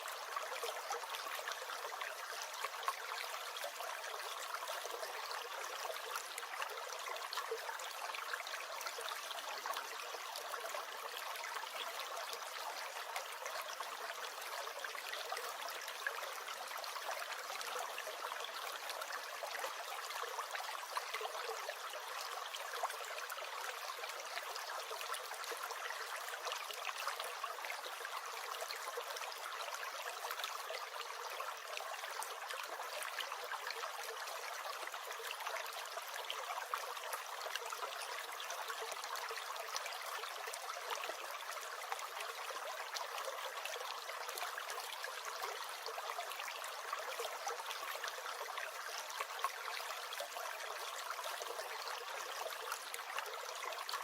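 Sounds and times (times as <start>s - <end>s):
brook gurgling: 0.0s - 54.0s.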